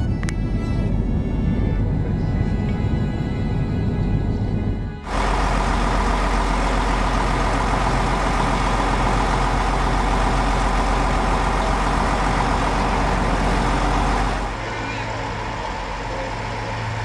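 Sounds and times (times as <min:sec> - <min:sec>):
diesel railcar engine humming: 0:00.0 - 0:17.0.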